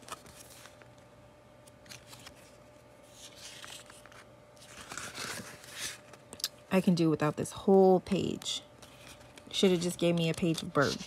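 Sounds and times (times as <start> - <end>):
paper pages rustling: 0.0 - 6.4, 8.2 - 11.0.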